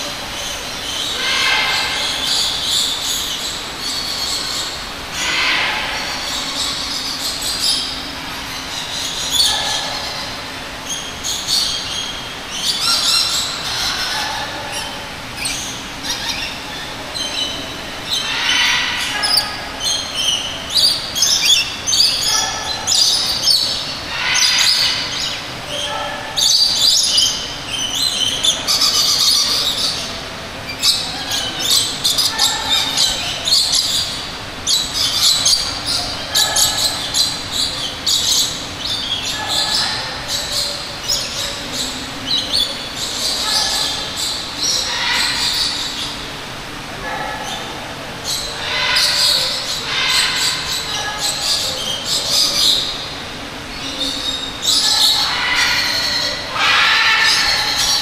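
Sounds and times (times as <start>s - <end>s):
tropical birds squawking and chirping: 0.0s - 58.0s.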